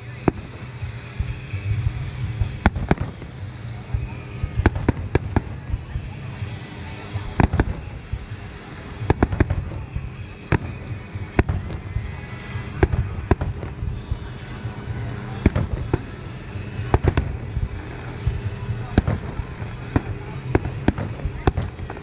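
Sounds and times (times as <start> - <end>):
firework shells booming: 0.2 - 6.4, 7.2 - 22.0.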